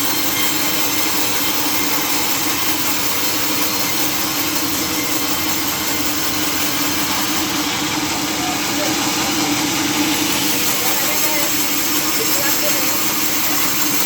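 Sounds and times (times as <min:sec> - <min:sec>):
saw blade whining in wood: 0:00.0 - 0:14.0
sawmill machine running: 0:00.0 - 0:14.0.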